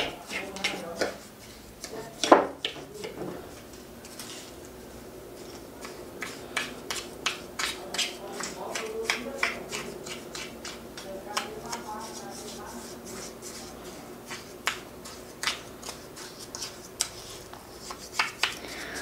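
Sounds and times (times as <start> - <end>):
plastic spoon stirring thick scrub: 0.0 - 19.0.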